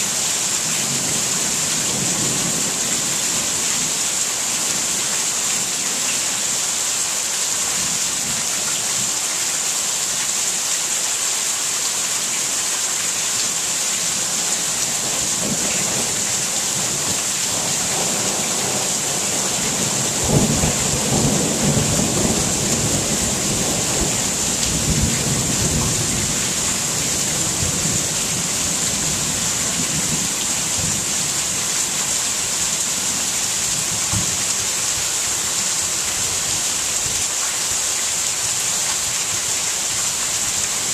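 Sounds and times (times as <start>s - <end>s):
rain hiss: 0.0s - 40.9s.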